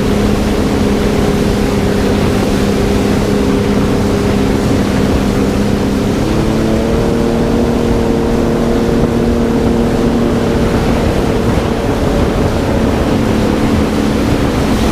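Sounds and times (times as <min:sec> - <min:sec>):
jet ski engine running: 0:00.0 - 0:14.9
wind rumble on microphone: 0:00.0 - 0:14.9.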